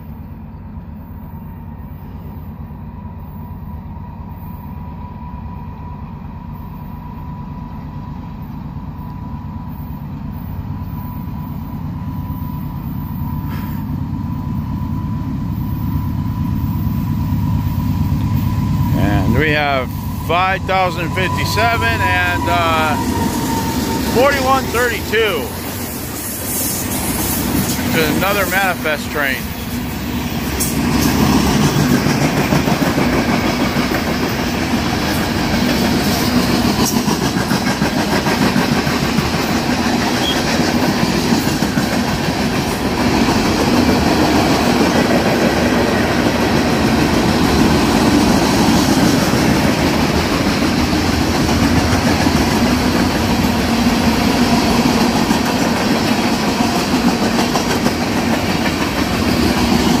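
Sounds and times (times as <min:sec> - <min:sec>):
freight train wheels rolling: 0:00.0 - 1:00.0.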